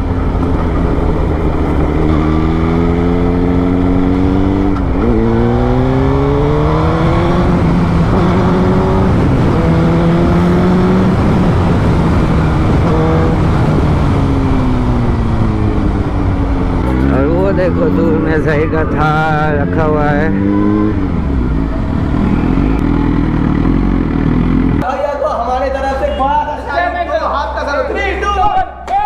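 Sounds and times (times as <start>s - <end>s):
motorcycle engine accelerating: 0.0s - 24.8s.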